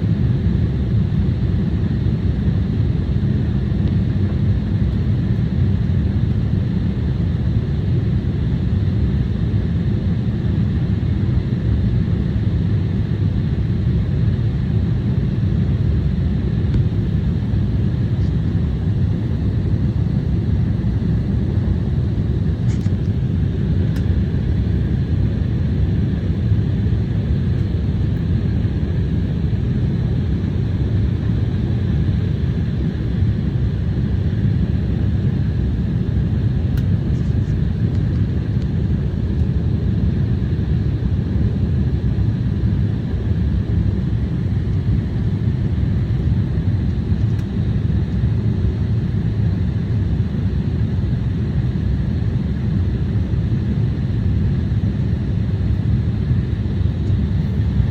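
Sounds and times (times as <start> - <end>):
airliner engine and airflow rumble: 0.0 - 57.9
faint steady whine: 0.0 - 57.9.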